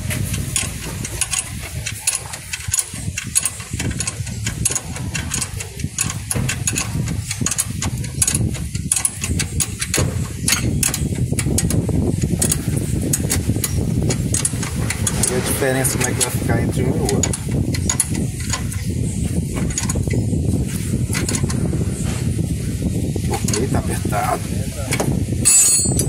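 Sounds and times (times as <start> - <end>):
hand tools clicking and tapping: 0.0 - 20.2, 21.1 - 21.6, 23.3 - 23.9
steady low rumble: 0.0 - 26.0.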